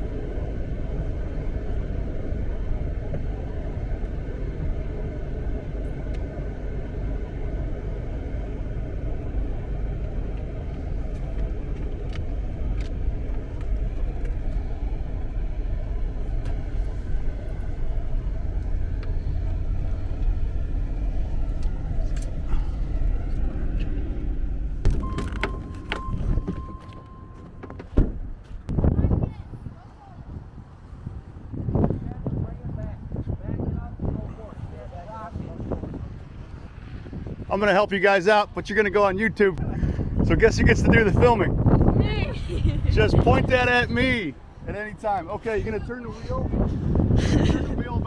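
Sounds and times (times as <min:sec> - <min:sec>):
road noise: 0:00.0 - 0:48.0
vehicle engine rumble: 0:00.0 - 0:48.0.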